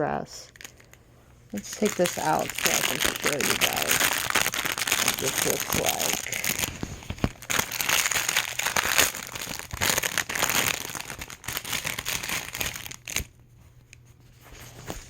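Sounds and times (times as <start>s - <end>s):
packaging crinkling and rustling: 0.5s - 15.0s.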